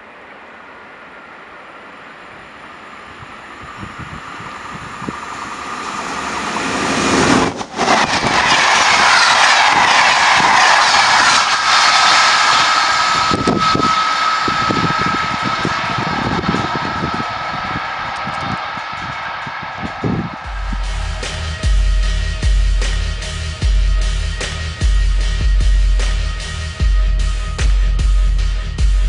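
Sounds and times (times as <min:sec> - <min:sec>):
train rushing rail noise: 0:00.0 - 0:28.9
high whine: 0:00.0 - 0:29.0.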